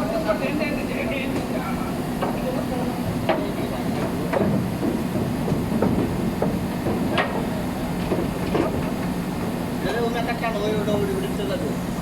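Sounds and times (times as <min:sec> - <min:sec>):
textile machinery droning: 0:00.0 - 0:12.0.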